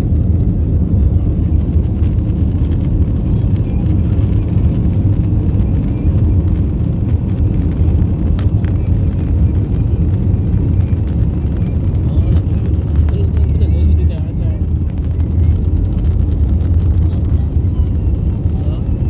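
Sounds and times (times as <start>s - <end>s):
airliner engines and airflow rumble: 0.0s - 19.0s.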